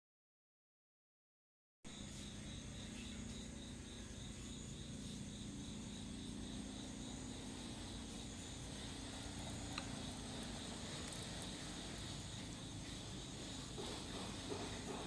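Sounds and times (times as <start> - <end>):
insects chirring: 1.9 - 15.0
low steady hum: 2.0 - 14.9
high continuous whine: 2.0 - 15.0.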